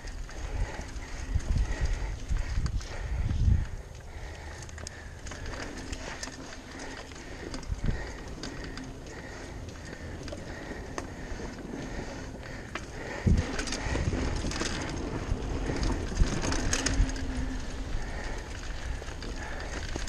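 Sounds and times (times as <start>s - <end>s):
bike tyres clicking over planks: 0.0s - 20.0s
wind rumble on microphone: 0.0s - 20.0s.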